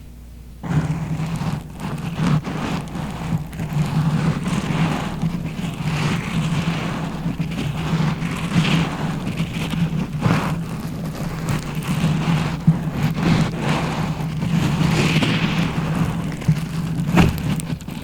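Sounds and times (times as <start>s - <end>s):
scratching against microphone: 0.6s - 18.0s.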